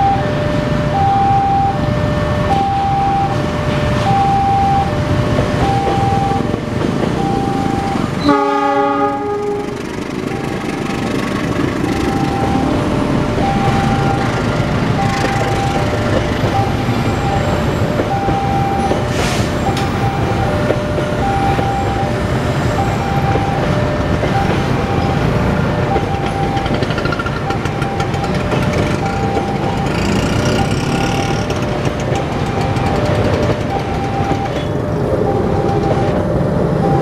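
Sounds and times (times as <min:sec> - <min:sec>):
two-tone crossing alarm: 0:00.0 - 0:37.0
train wheels rumbling and clattering: 0:04.8 - 0:37.0.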